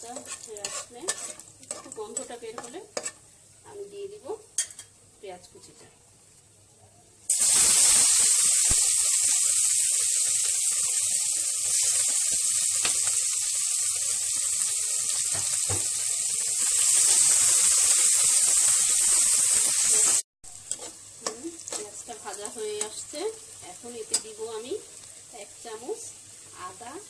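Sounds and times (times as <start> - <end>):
onions sizzling in oil: 0.0 - 6.5, 7.3 - 27.0.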